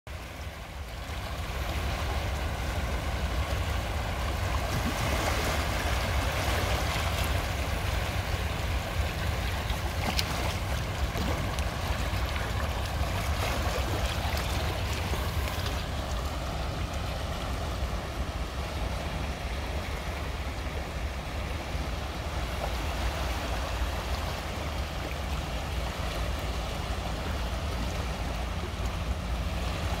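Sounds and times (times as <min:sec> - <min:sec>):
sea surf washing over rocks: 0:00.1 - 0:30.0.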